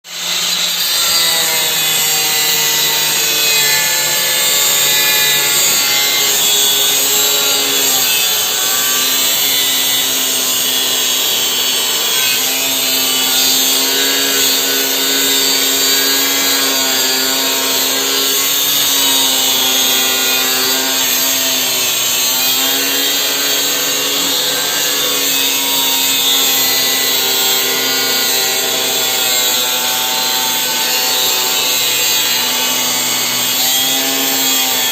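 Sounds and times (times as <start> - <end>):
angle grinder cutting: 0.0 - 34.9.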